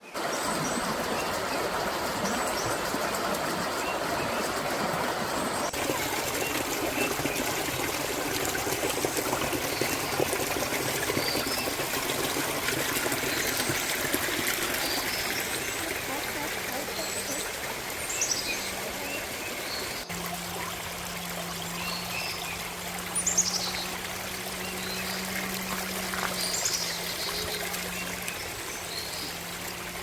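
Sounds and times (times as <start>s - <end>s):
waterfall rushing and splashing: 0.1s - 30.0s.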